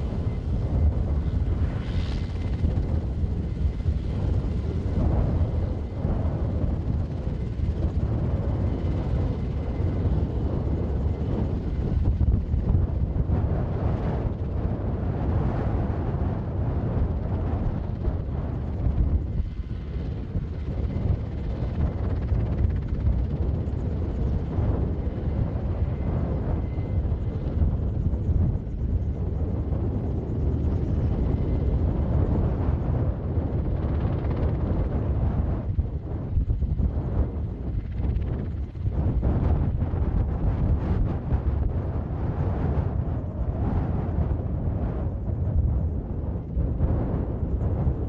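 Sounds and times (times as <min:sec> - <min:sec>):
helicopter rotor and engines rumbling: 0:00.0 - 0:48.0.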